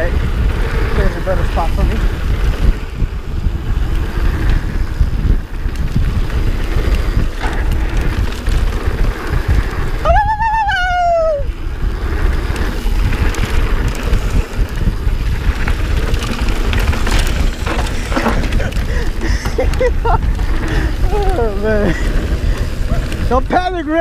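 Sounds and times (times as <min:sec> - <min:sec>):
tyres rumbling on dirt trail: 0:00.0 - 0:24.0
wind buffeting microphone: 0:00.0 - 0:24.0.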